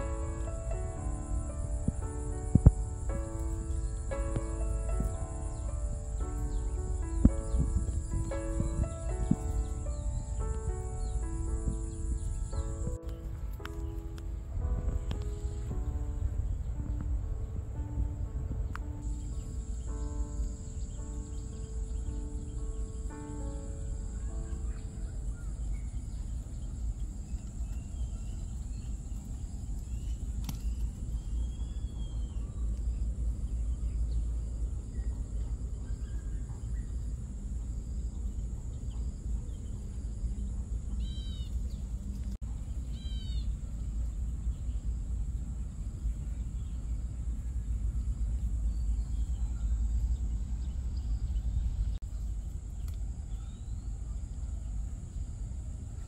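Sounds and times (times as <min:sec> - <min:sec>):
bird chirping: 0:00.0 - 0:55.2
steady low rumble: 0:00.0 - 0:56.0.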